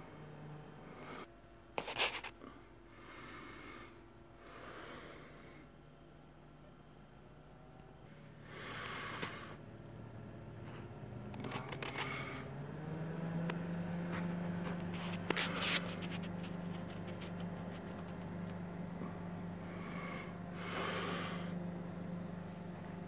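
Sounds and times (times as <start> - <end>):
computer fans humming: 0.0 - 23.0.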